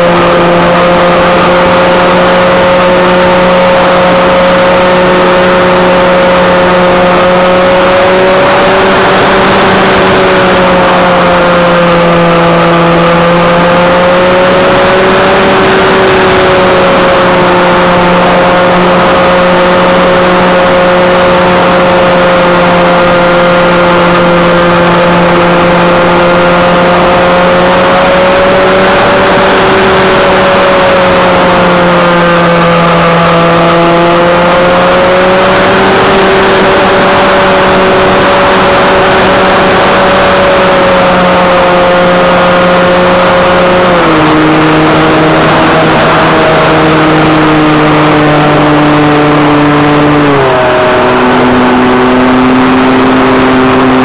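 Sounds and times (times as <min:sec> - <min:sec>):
model airplane motor droning: 0:00.0 - 0:54.0.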